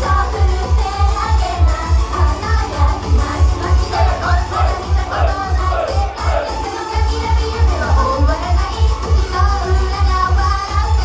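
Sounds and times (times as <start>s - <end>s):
dance track with fast kick drum: 0.0s - 11.0s
person singing: 0.0s - 11.0s.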